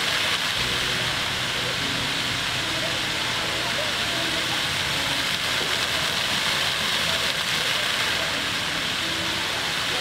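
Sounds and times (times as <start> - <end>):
fountain water splashing on pavement: 0.0 - 10.0.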